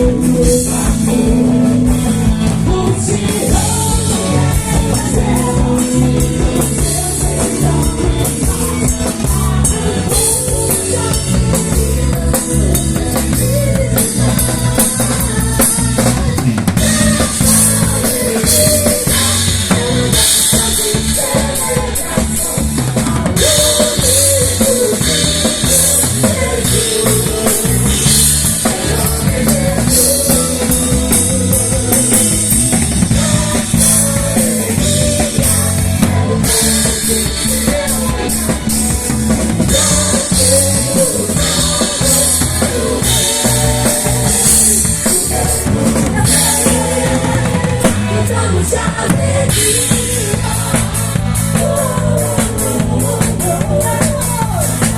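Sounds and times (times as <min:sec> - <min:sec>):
drum kit: 0:00.0 - 0:54.9
live band playing: 0:00.0 - 0:54.9.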